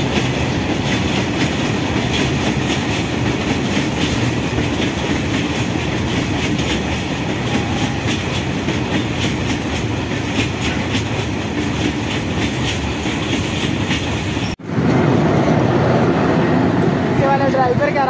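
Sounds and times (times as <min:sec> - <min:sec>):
wheels clacking over rail joints: 0:00.0 - 0:14.9
steel wheels rumbling on rail: 0:00.0 - 0:18.0.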